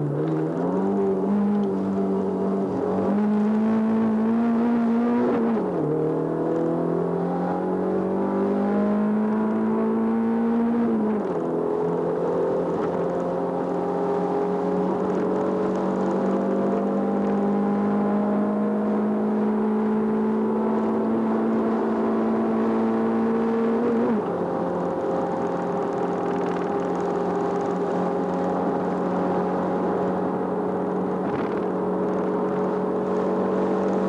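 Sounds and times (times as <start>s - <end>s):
racing car engine from inside: 0.0s - 34.0s.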